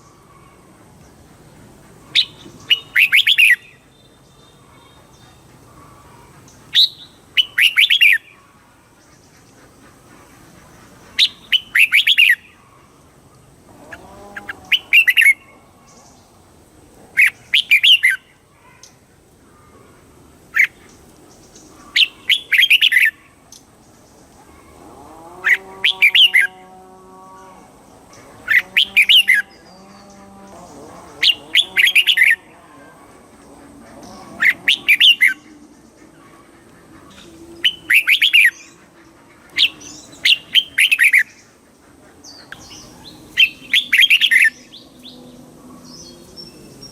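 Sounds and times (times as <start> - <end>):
bird warbling song: 0.0 - 13.0, 13.8 - 16.4, 17.2 - 46.9.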